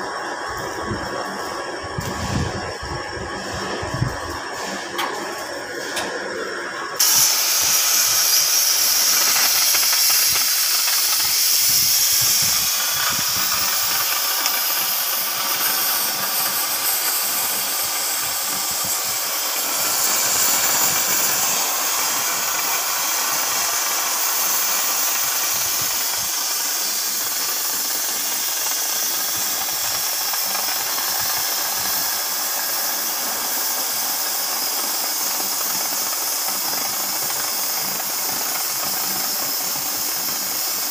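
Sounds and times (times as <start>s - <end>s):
cutting torch hissing: 0.0s - 40.9s.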